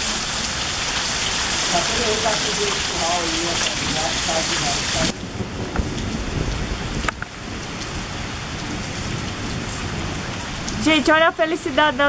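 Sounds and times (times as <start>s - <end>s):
rain on ground and foliage: 0.0s - 12.0s.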